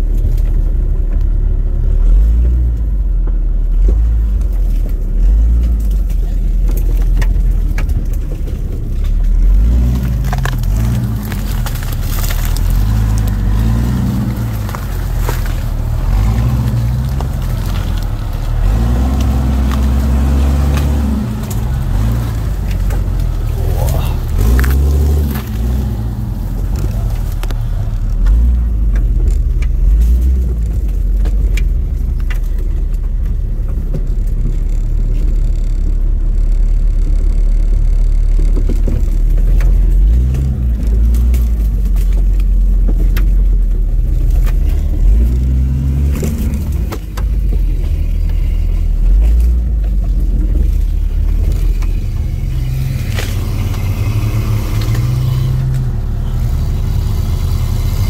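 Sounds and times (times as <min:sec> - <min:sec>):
jeep engine revving: 0:00.0 - 0:58.0.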